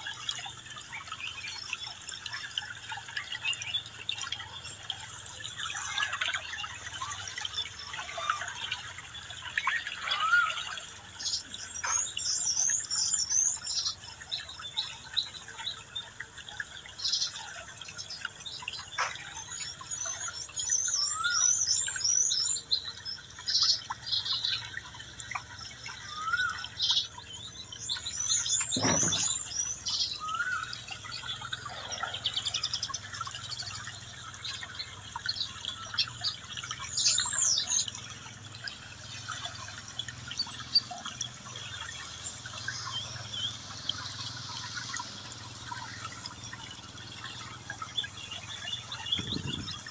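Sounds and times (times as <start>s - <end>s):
birds twittering: 0.0s - 49.9s.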